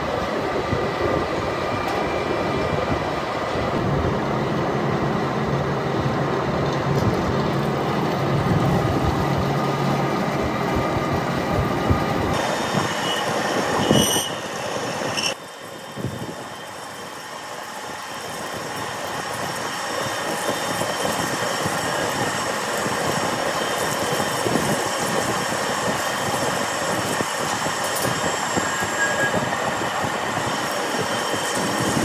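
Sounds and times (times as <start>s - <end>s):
metal lathe running: 0.0s - 32.0s.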